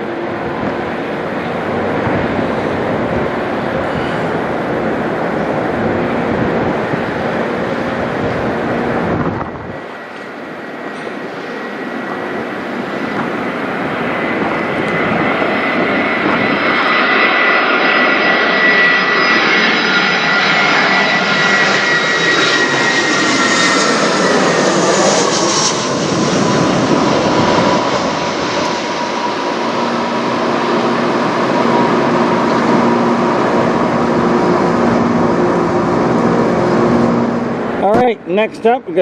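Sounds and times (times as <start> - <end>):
jet airliner flying overhead: 0.0 - 39.0.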